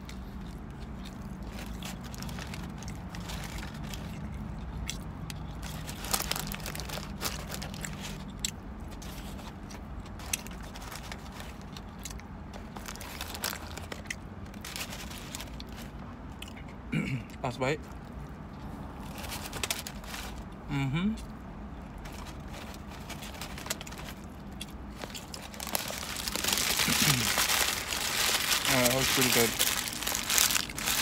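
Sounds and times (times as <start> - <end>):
person chewing crispy food: 0.0 - 16.8, 21.2 - 31.0
low steady hum: 0.0 - 31.0.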